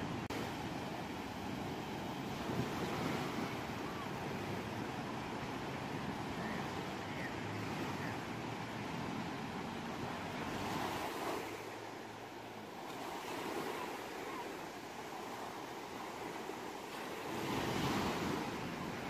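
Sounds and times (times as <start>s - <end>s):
ocean waves on shore: 0.0s - 19.0s.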